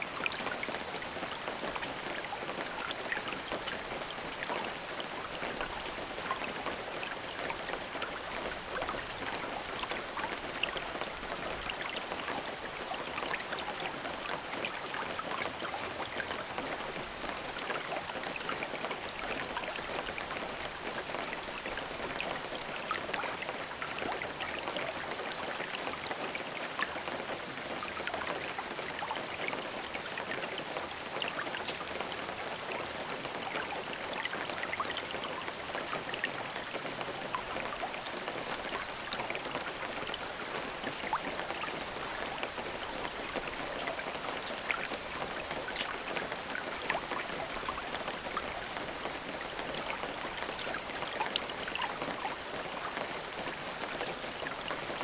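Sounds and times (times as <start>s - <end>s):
raindrops pattering on a surface: 0.0s - 55.0s.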